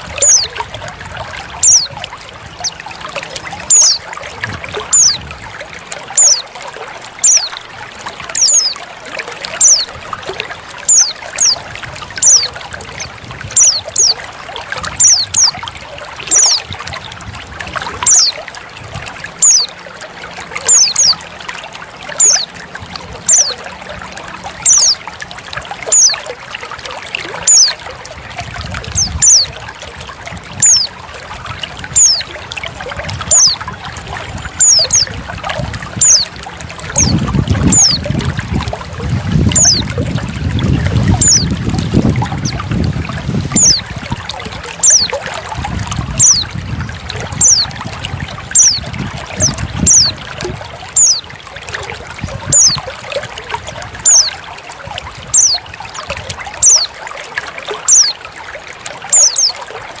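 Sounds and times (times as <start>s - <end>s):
trickling water: 0.0s - 60.0s.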